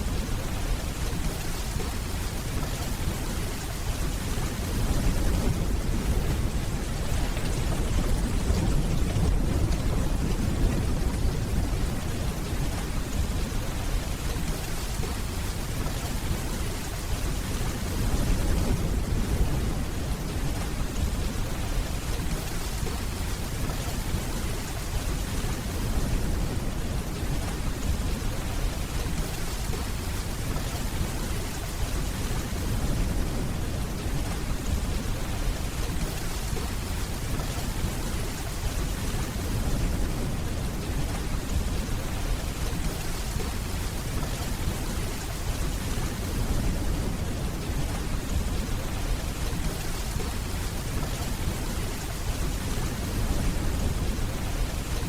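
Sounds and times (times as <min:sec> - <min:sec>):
dense rainfall: 0:00.0 - 0:55.0.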